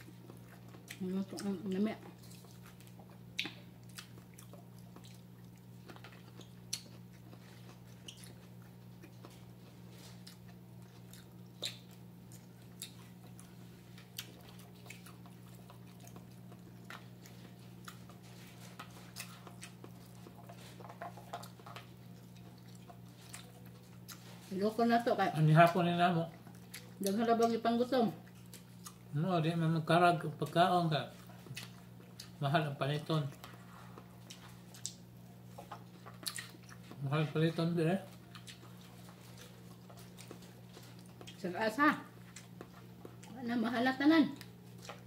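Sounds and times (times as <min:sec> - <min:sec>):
people chewing: 0:00.0 - 0:45.0.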